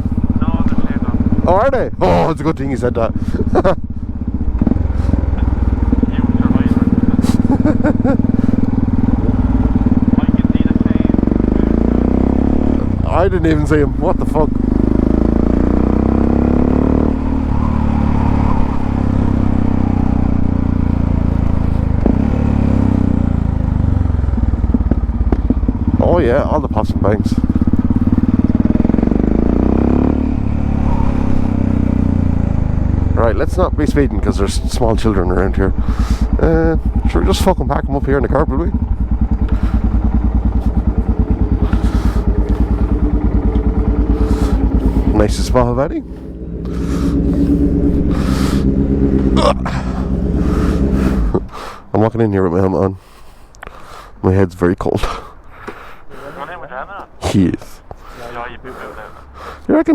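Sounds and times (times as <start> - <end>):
motorcycle engine running: 0.0 - 56.8
exhaust popping: 0.0 - 59.9.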